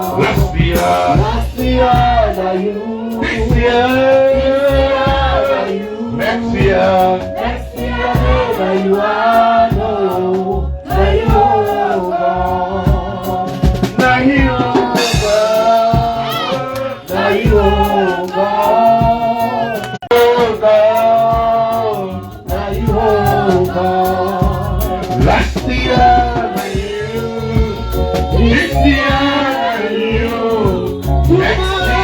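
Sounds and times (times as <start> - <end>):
band with drum beat: 0.0 - 32.0
voices singing gospel song: 0.0 - 32.0.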